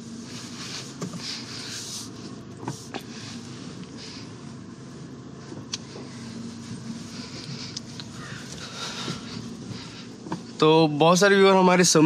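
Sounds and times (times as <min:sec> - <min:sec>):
car engine hum: 0:00.0 - 0:12.0
road noise hiss: 0:00.0 - 0:12.0.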